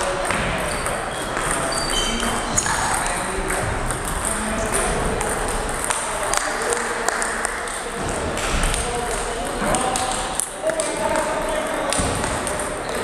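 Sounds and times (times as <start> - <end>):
background chatter: 0.0 - 13.0
table tennis balls clicking: 0.0 - 13.0.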